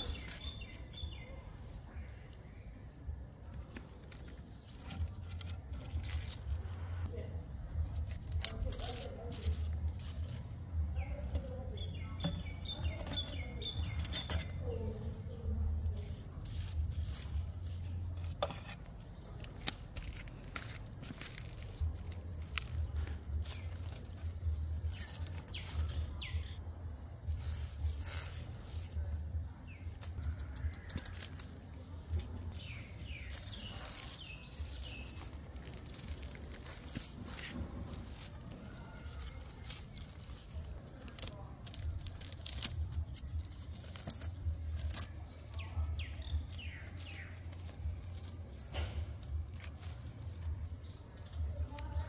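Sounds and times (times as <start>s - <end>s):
leaves rustling and clicking: 0.0s - 52.0s.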